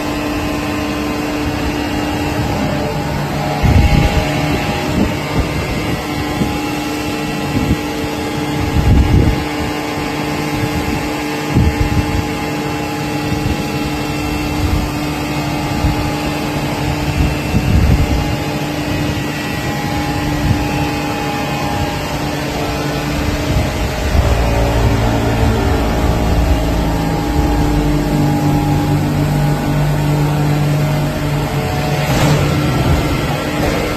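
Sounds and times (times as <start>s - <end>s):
hydraulic baler humming: 0.0s - 33.9s.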